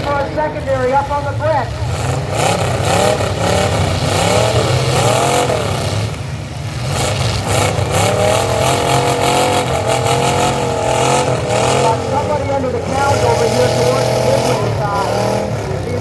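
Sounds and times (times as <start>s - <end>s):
truck engines revving hard: 0.0s - 16.0s.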